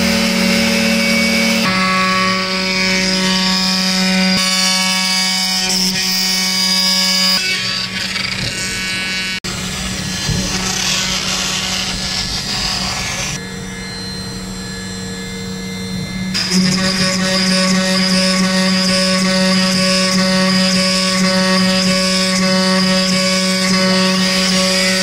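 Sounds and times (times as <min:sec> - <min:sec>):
bit cutting wood: 0:00.0 - 0:13.4, 0:16.3 - 0:25.0
router spindle humming: 0:00.0 - 0:25.0.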